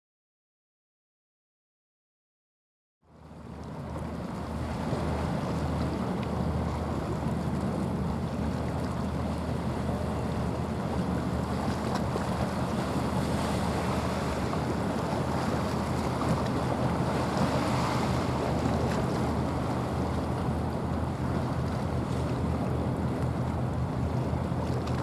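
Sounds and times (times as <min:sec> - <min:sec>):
water rushing along hull: 0:03.0 - 0:25.0
ship engines droning: 0:03.1 - 0:25.0.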